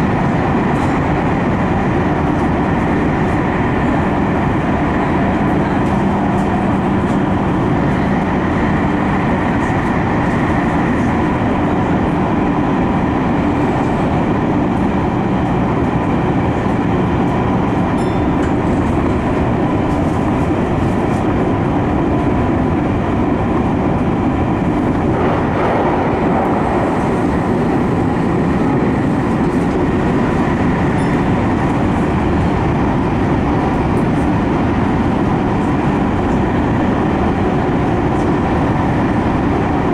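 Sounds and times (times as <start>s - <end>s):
traction equipment hum: 0.0s - 39.9s
train wheels rumbling on rail: 0.0s - 39.9s.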